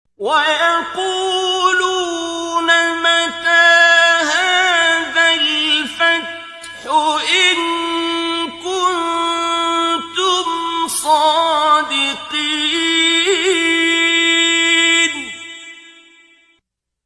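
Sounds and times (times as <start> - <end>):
person chanting melodically: 0.2 - 16.2.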